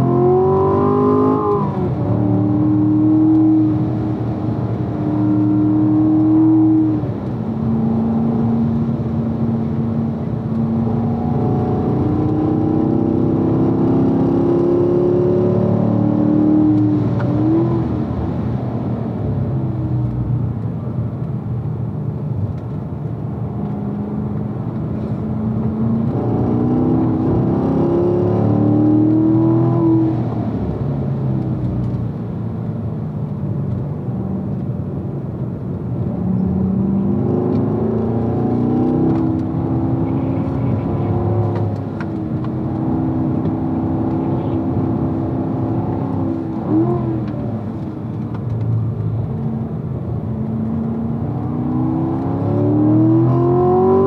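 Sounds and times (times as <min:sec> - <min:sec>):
car engine accelerating: 0:00.0 - 0:20.6, 0:22.5 - 0:34.8, 0:35.4 - 0:54.0.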